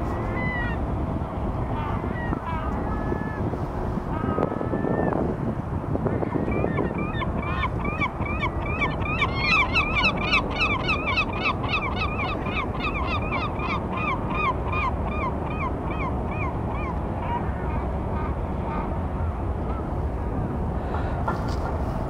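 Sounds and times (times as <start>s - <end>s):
gulls calling: 0.0s - 5.3s, 6.0s - 20.4s.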